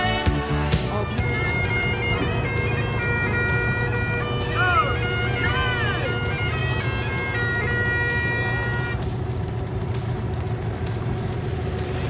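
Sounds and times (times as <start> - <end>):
music with held notes: 0.0 - 12.0
outboard motor running: 0.0 - 12.0
wind: 0.0 - 12.0
water noise: 0.9 - 12.0.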